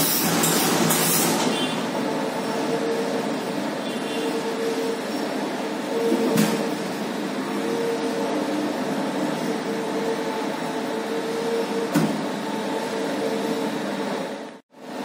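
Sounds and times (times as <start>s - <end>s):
steam iron machine whirring: 0.0s - 14.4s.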